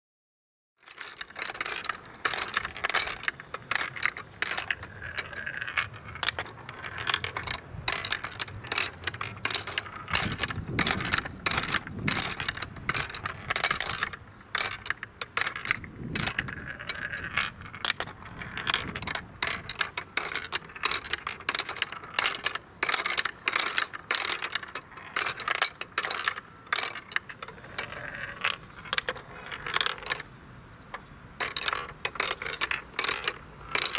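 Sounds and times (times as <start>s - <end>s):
marbles clicking on wooden steps: 0.8s - 33.9s.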